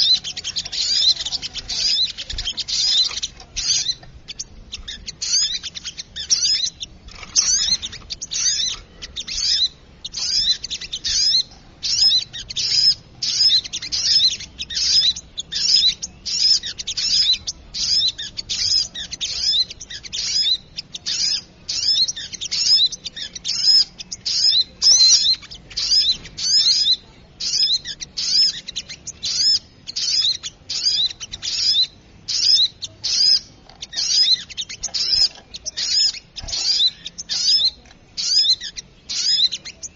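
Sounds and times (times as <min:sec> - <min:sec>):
high-pitched bird chirps: 0:00.0 - 0:39.9.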